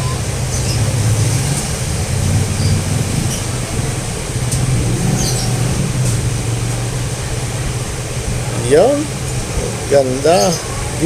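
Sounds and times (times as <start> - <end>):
low rumble: 0.0 - 10.1
even hiss: 0.2 - 11.0.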